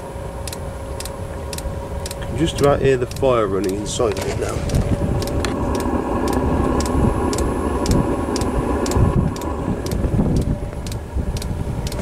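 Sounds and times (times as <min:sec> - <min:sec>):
heater burner rumbling: 0:00.0 - 0:12.0
fuel pump ticking: 0:00.4 - 0:12.0
wind buffeting microphone: 0:00.7 - 0:12.0.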